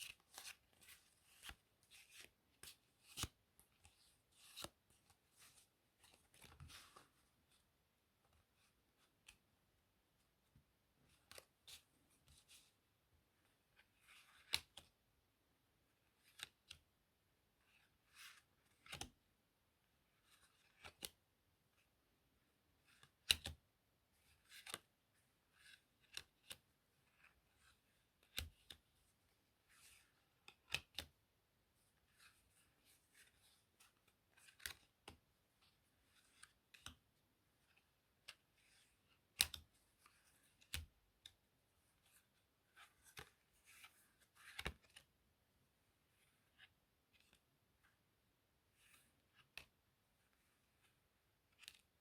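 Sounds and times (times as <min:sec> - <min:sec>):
playing cards rustling and sliding: 0:00.0 - 0:09.5, 0:10.1 - 0:15.0, 0:16.0 - 0:16.8, 0:17.6 - 0:19.2, 0:20.0 - 0:21.2, 0:22.8 - 0:23.6, 0:24.2 - 0:31.2, 0:31.8 - 0:45.2, 0:45.8 - 0:48.0, 0:48.7 - 0:52.0.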